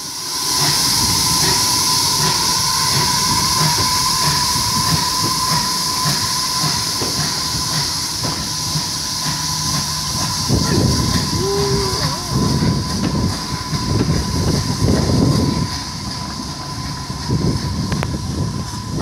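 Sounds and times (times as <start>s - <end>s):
train wheels clanking over rail joints: 0.6s - 11.4s, 12.3s - 19.0s.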